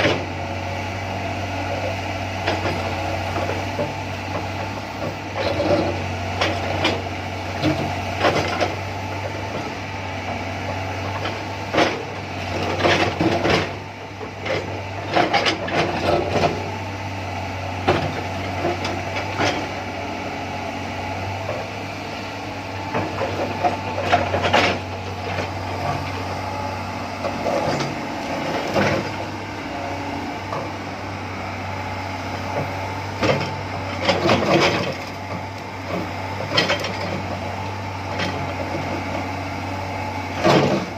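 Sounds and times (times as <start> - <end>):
excavator engine drone: 0.0 - 40.9.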